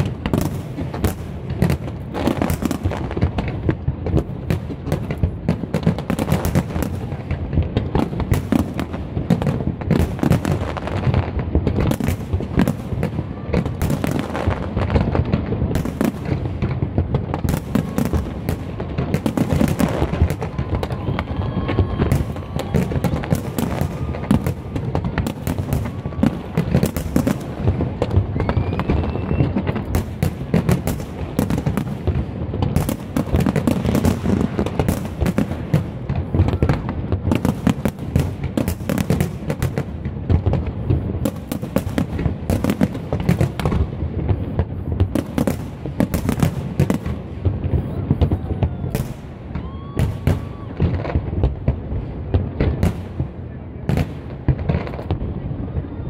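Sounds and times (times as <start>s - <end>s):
fireworks sharp bangs: 0.0s - 56.0s.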